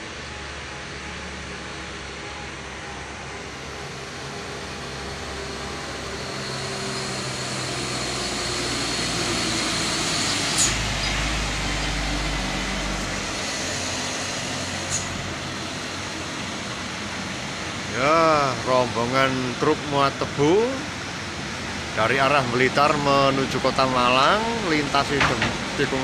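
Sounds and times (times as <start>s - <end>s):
trucks driving past: 0.0s - 26.0s.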